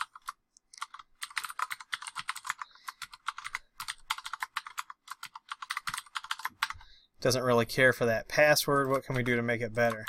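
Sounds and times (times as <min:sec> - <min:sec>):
keyboard typing: 0:00.0 - 0:06.9, 0:08.6 - 0:10.0.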